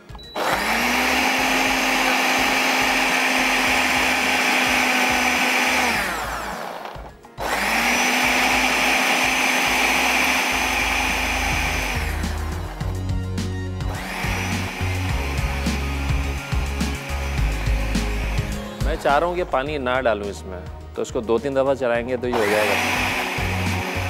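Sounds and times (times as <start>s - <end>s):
electric blender whirring: 0.0s - 13.2s, 13.8s - 19.3s, 22.3s - 24.0s.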